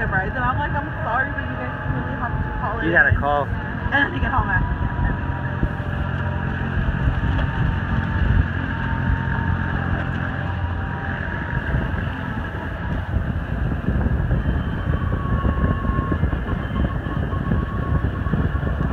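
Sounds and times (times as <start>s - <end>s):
car road and engine rumble: 0.0s - 18.9s
faint steady whine: 0.0s - 18.9s.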